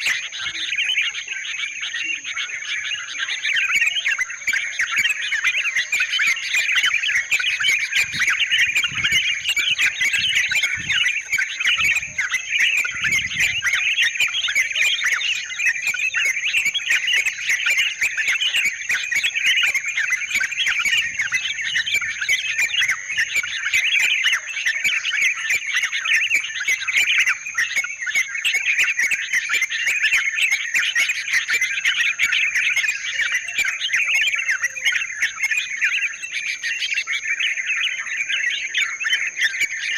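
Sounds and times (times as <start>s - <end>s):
birds chattering and calling: 0.0s - 39.9s
high-pitched insect trill: 0.0s - 39.9s.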